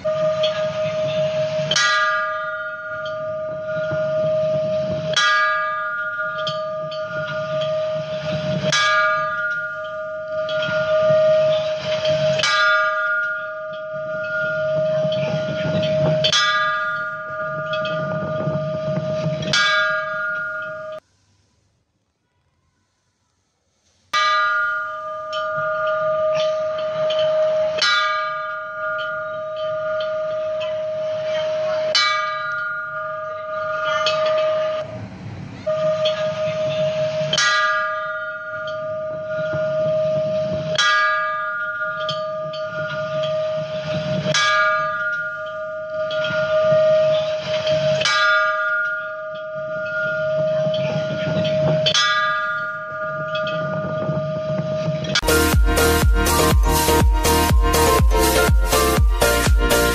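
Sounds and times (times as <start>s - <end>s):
metal temple bell ringing: 0.0s - 21.0s, 24.2s - 59.9s.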